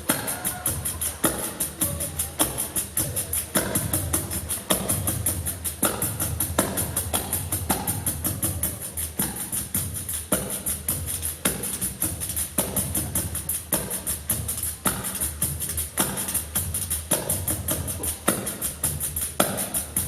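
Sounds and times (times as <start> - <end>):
frame drums with jingles: 0.0 - 20.0.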